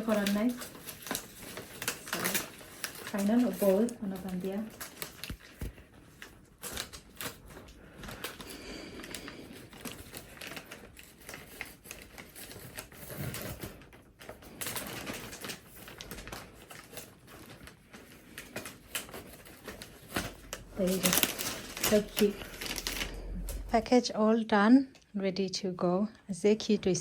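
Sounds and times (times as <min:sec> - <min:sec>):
wrapping crinkling and rustling: 0:00.0 - 0:24.0.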